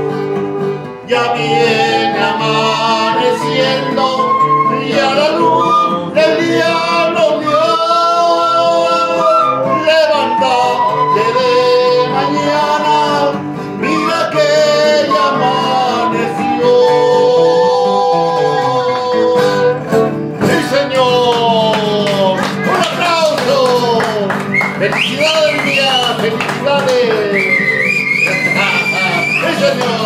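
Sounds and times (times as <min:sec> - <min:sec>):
wooden flute melody: 0:00.0 - 0:20.1, 0:24.4 - 0:30.0
strummed acoustic guitar: 0:00.0 - 0:30.0.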